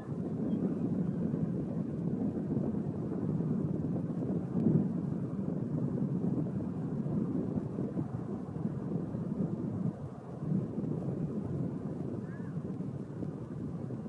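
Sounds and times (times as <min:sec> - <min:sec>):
lava eruption low rumble: 0:00.0 - 0:14.0.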